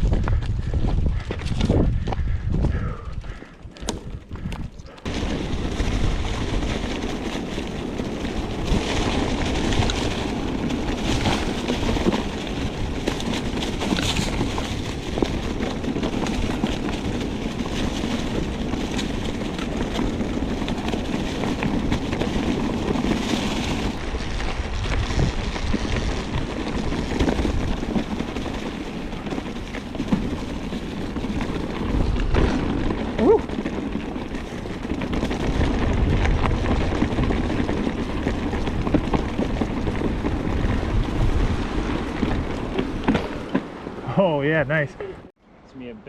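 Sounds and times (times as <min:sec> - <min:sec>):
wind on microphone: 0:00.0 - 0:44.1
bike rattling over rocks: 0:03.2 - 0:45.3.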